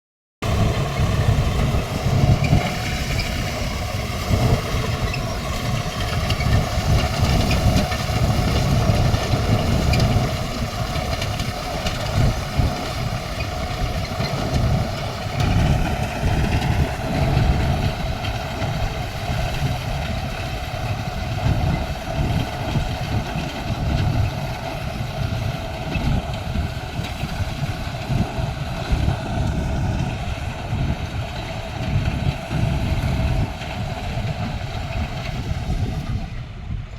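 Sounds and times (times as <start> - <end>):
heavy diesel engine running: 0.4 - 36.9.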